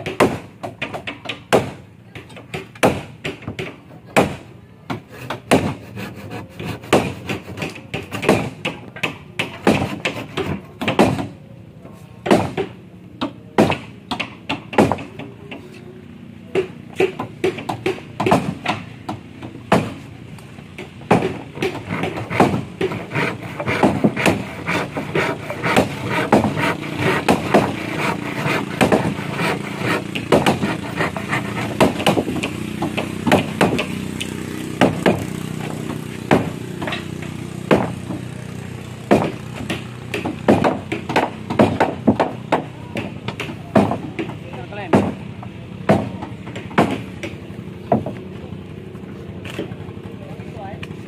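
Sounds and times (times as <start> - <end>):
steady motor hum: 1.4 - 51.0.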